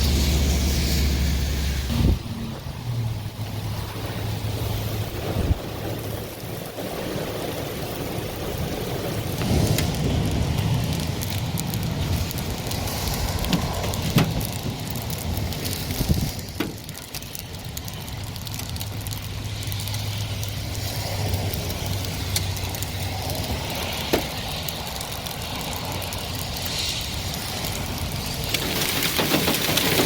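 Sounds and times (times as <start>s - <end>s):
hailstones striking: 0.0s - 30.0s
heavy rain hissing: 0.0s - 30.0s.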